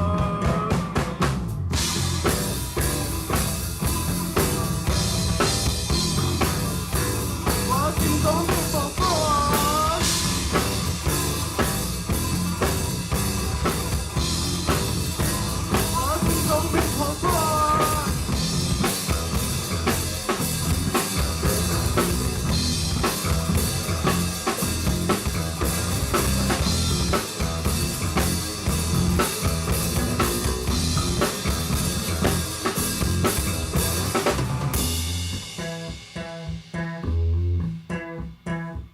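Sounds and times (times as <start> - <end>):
rock band playing: 0.0 - 38.9
sliding guitar lead lines: 0.0 - 38.9.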